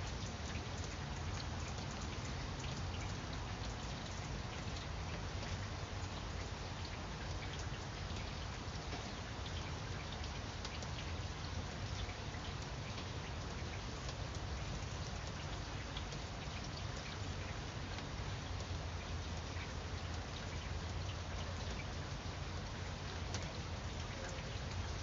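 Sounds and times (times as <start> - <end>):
rain falling on leaves: 0.0 - 25.0.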